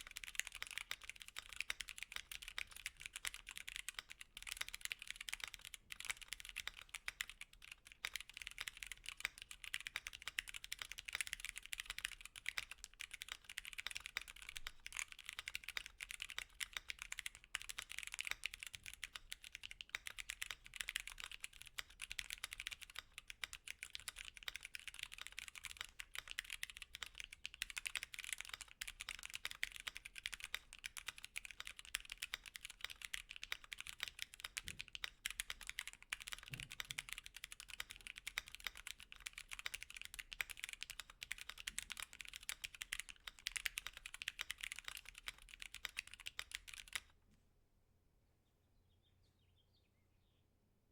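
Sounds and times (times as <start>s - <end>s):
fast typing on mechanical keyboard: 0.0s - 47.1s.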